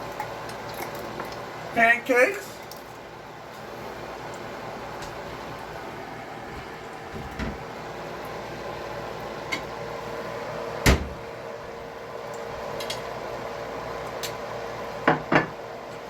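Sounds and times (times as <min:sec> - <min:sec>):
kitchen hum and hiss: 0:00.0 - 0:16.0.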